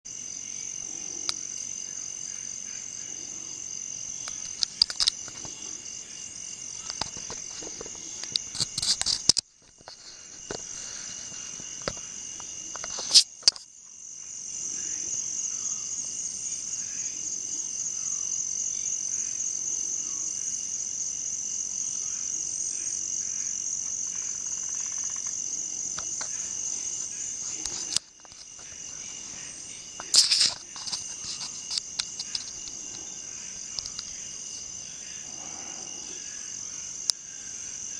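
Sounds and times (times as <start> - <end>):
crickets chirping: 0.1 - 37.9.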